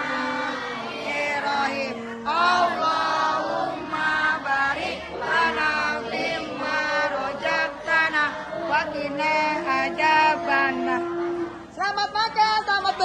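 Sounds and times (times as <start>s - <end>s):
voices singing in chant-like style: 0.0s - 13.0s.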